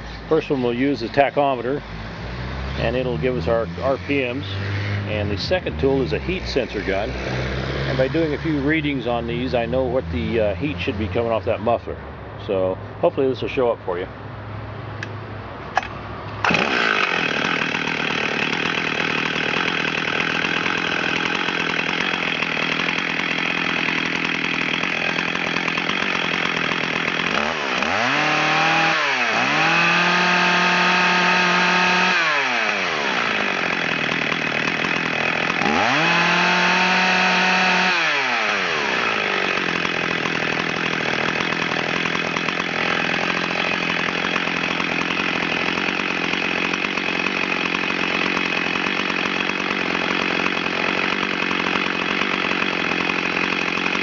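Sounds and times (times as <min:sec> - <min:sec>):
chainsaw engine idling and revving: 0:00.0 - 0:54.0.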